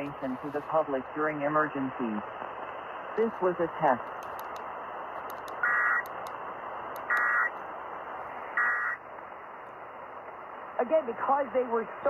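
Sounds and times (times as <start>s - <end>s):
broadcast hiss: 0.0s - 12.0s.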